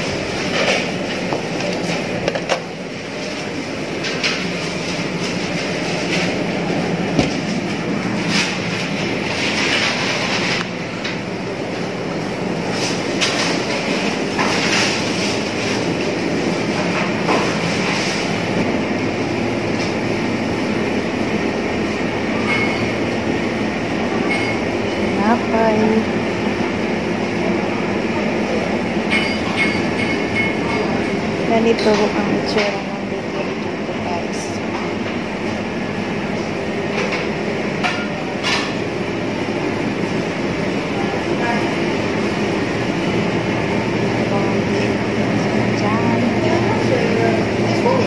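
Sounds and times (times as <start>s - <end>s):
mechanical hum: 0.0s - 48.0s.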